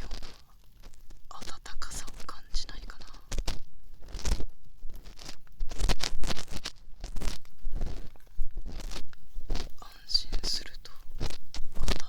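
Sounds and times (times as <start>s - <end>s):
ear pick scratching in ear: 0.0s - 12.0s.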